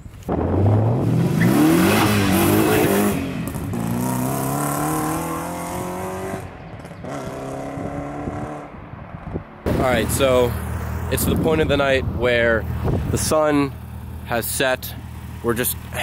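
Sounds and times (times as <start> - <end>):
car engine accelerating: 0.3 - 16.0.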